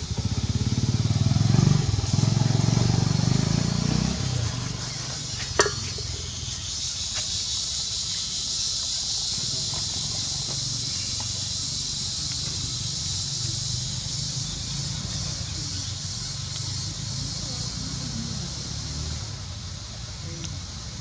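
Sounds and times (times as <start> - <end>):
motorbike engine passing: 0.0 - 7.2, 9.5 - 19.4
outdoor background hiss: 0.0 - 21.0.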